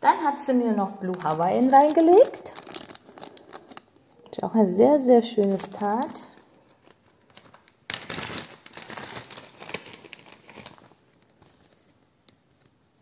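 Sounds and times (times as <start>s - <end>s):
plastic bag crinkling: 0.8s - 12.0s.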